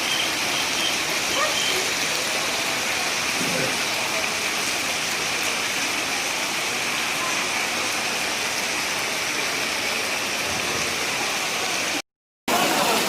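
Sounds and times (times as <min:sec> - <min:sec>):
heavy rain: 0:00.0 - 0:13.0
rushing floodwater: 0:00.0 - 0:13.0.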